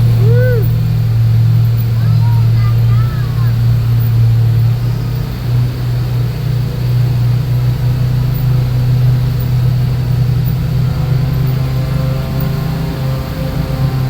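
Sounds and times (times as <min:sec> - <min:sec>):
vehicle engine running steadily: 0:00.0 - 0:14.0.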